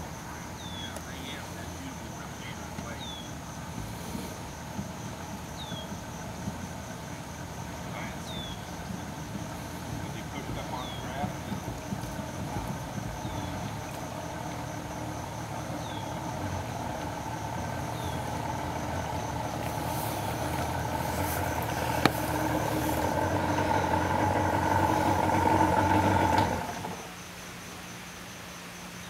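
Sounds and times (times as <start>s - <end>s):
engine running: 0.0s - 27.5s.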